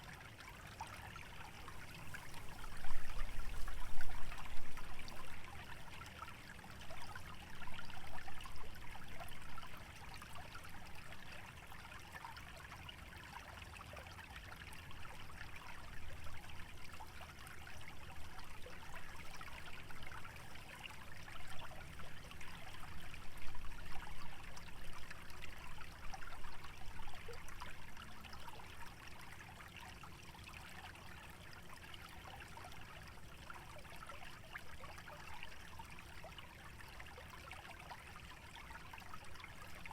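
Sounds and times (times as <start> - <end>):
shallow stream trickling: 0.0 - 39.9.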